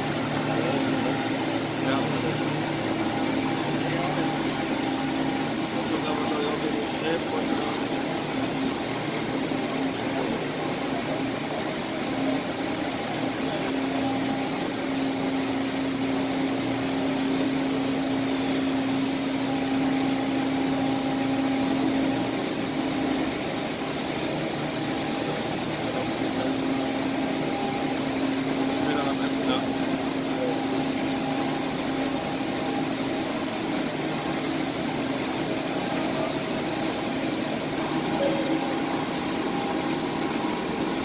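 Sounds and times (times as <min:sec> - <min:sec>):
mechanical droning hum: 0:00.0 - 0:41.0.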